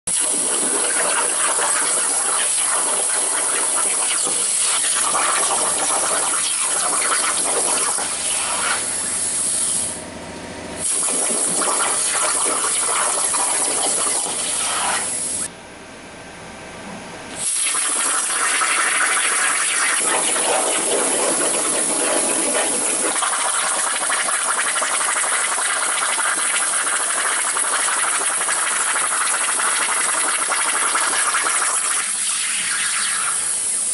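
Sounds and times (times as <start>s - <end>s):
plasma cutter hissing: 0.1s - 10.0s, 10.8s - 15.5s, 17.4s - 33.9s.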